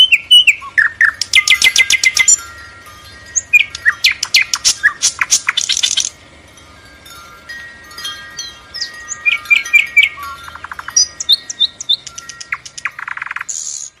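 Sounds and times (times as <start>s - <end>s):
fast rattling bird trill: 0.0s - 14.0s
songbirds chirping: 0.0s - 14.0s.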